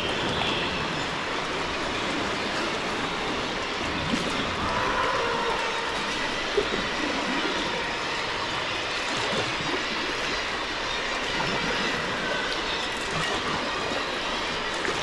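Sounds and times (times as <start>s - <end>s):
sea water rushing around kayak: 0.0s - 15.0s.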